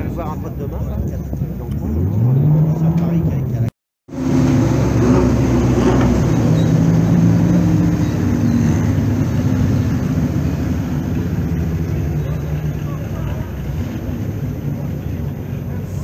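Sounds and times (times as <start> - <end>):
racing car engines passing slowly: 0.0 - 16.0.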